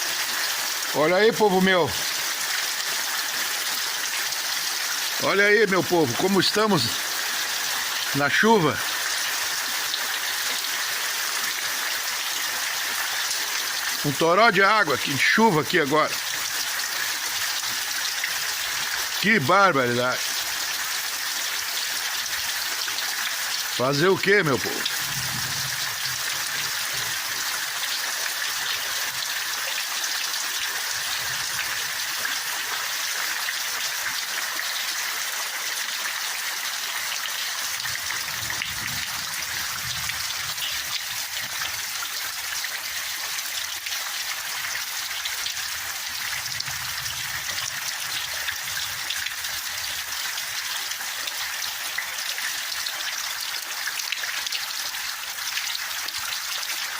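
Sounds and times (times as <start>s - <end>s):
heavy rain: 0.0s - 56.9s
water running and trickling: 0.0s - 56.9s.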